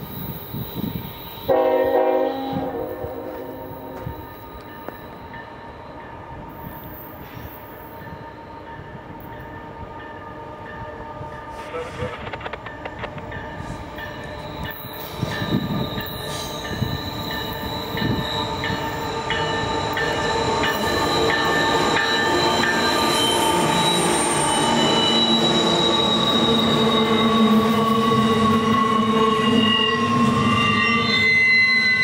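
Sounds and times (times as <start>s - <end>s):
diesel locomotive passing: 0.0s - 32.0s
train wheels squealing on rail: 0.0s - 32.0s.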